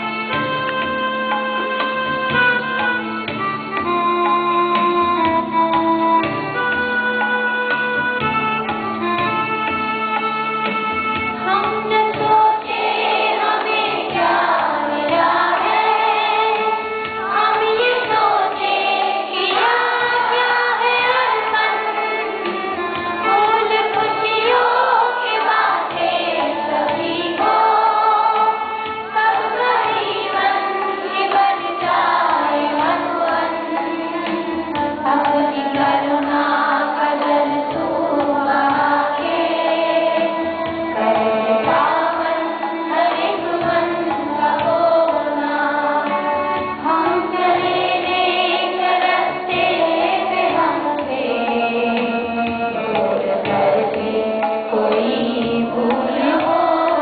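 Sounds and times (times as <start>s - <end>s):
children singing: 8.9s - 57.0s
woman singing into microphone: 11.4s - 57.0s.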